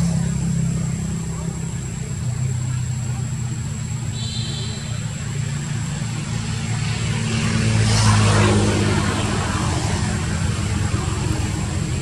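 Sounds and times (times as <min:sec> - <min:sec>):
engine hum passing: 0:00.0 - 0:12.0.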